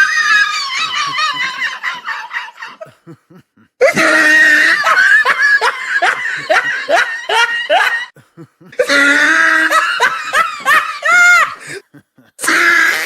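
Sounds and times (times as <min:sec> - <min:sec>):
high-pitched laugh: 0:00.0 - 0:13.0.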